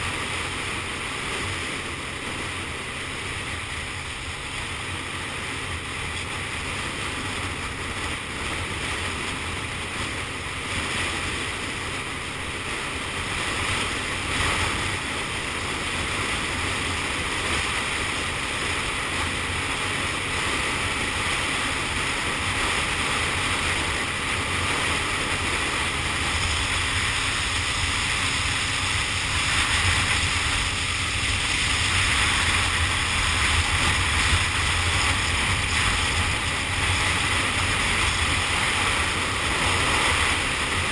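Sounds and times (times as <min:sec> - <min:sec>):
low rumble of scooter ride: 0:00.0 - 0:40.9
wind rush on microphone: 0:00.0 - 0:40.9.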